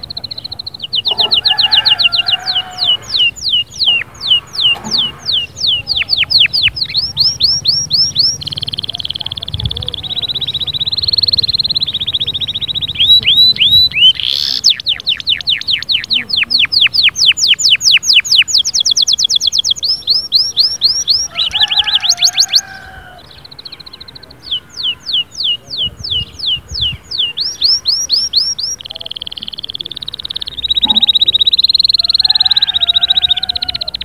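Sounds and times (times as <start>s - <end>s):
canary singing: 0.0s - 34.0s.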